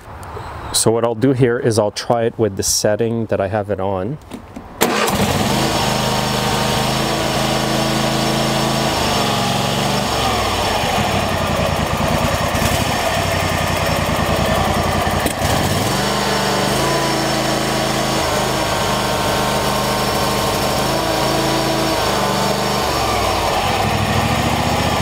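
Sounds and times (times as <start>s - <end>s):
lawn tractor engine running: 4.8s - 25.0s.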